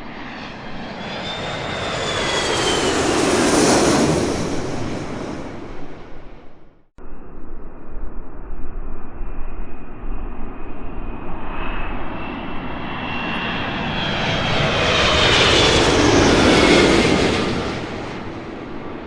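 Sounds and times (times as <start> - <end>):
airliner flying past: 0.0 - 19.0.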